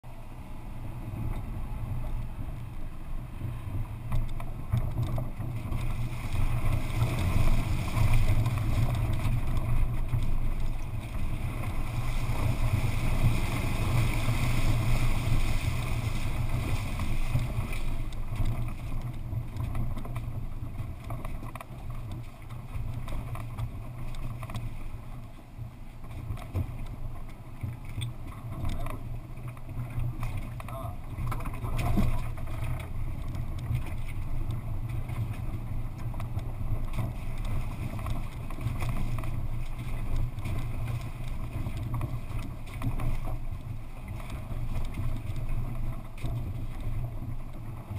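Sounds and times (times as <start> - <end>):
car driving over rough stony ground: 0.0 - 47.9
water splashing around wheels: 0.1 - 47.9.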